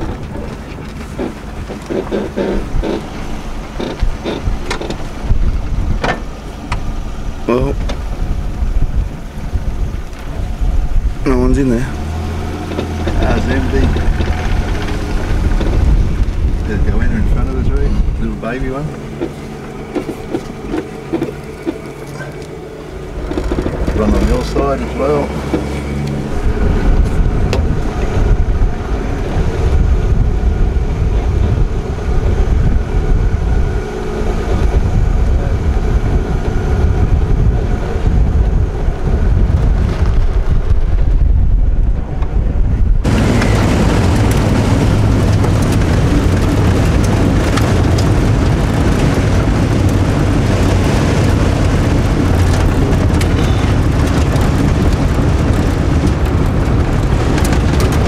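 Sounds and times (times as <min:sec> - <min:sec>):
car engine hum: 0:00.0 - 0:58.0
wind and road noise: 0:00.0 - 0:58.0
wind buffeting microphone: 0:00.0 - 0:58.0.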